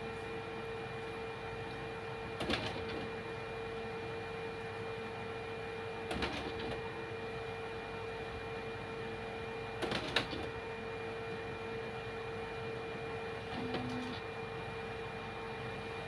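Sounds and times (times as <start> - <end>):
machine hum with whine: 0.0 - 16.0.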